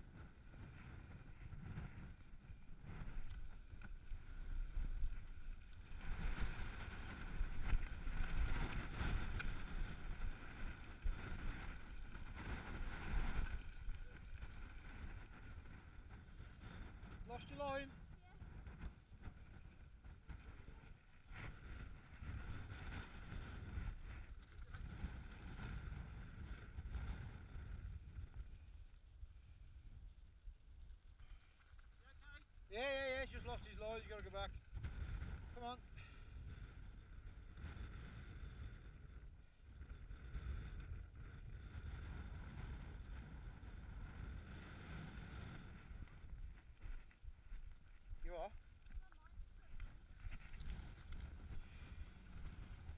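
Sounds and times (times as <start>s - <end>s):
wind buffeting microphone: 0.0s - 31.1s, 33.2s - 52.9s.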